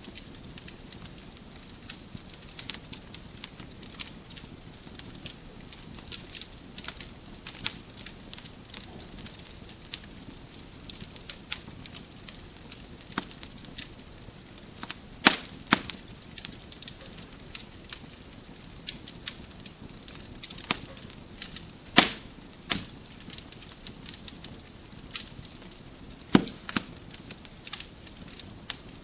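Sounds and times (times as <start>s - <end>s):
soft fire hiss: 0.0s - 29.0s
wood fire crackling: 0.0s - 29.0s.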